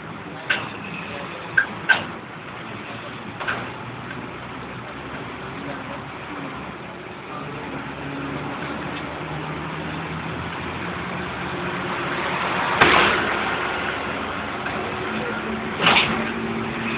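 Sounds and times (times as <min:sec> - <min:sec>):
vehicle engine and road noise: 0:00.0 - 0:16.9.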